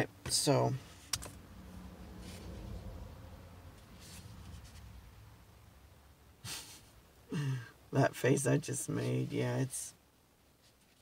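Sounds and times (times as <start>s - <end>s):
low steady rumble: 0.1s - 10.5s.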